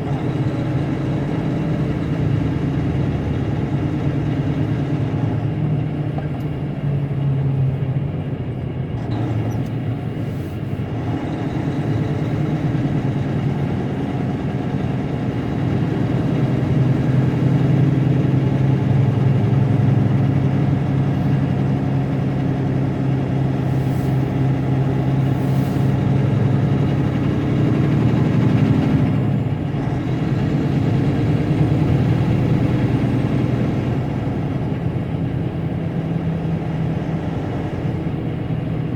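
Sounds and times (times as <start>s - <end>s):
diesel truck engine running: 0.0s - 38.9s
road noise: 0.0s - 38.9s.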